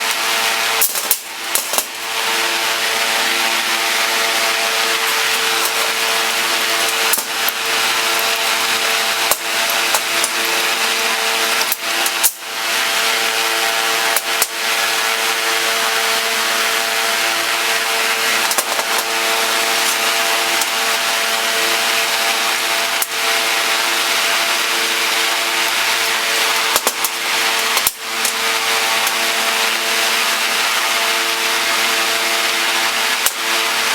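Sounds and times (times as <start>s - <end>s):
power tool motor hum: 0.0s - 33.9s.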